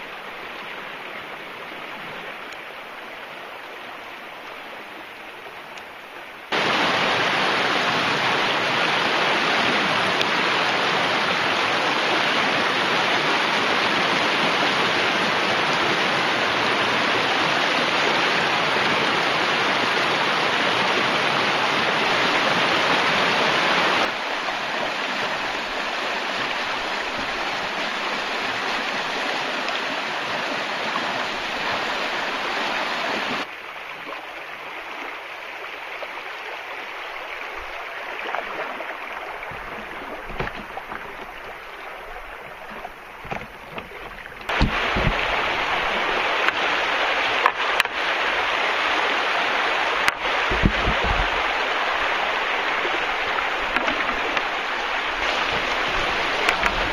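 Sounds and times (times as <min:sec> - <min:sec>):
river rushing over rapids: 0:00.0 - 0:56.9.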